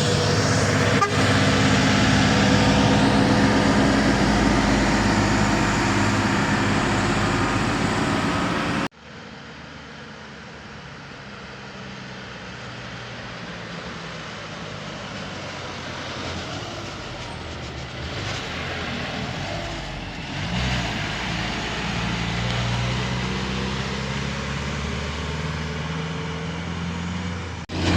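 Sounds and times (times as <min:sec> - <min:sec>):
truck diesel engine running: 0:00.0 - 0:08.9, 0:14.2 - 0:27.9
road noise: 0:00.0 - 0:27.9.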